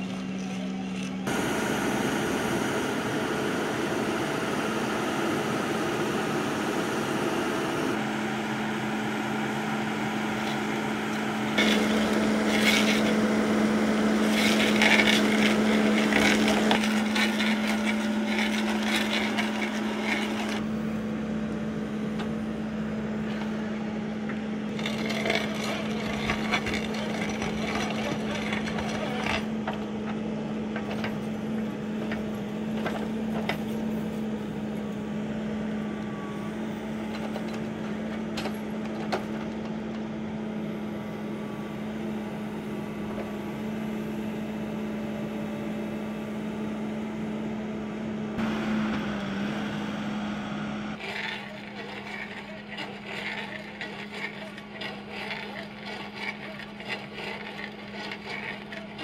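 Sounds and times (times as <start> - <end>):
backhoe engine humming: 0.0 - 59.0.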